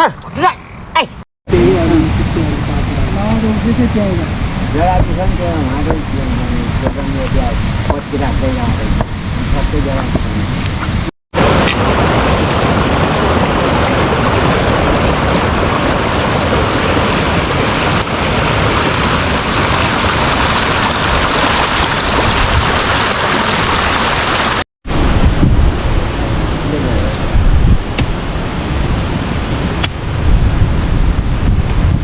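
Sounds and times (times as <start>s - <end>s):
rushing water: 1.5s - 30.2s.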